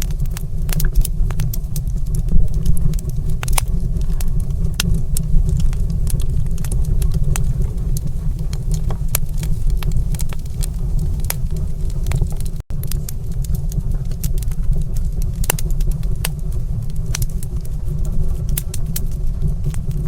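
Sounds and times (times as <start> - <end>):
low rumble: 0.0 - 20.0
wood fire crackling: 0.0 - 20.0.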